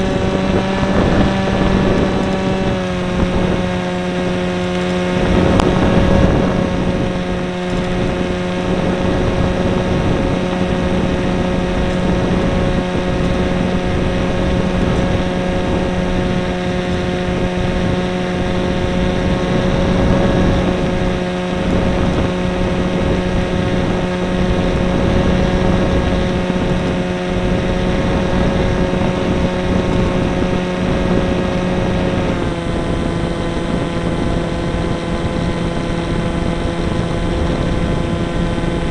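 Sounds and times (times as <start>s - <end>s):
model airplane motor and propeller: 0.0s - 38.9s.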